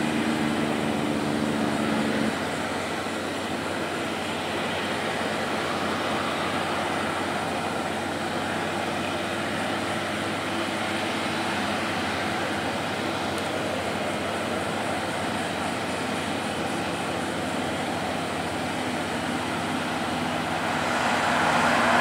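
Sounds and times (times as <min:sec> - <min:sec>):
diesel truck engine drone: 0:00.0 - 0:22.0.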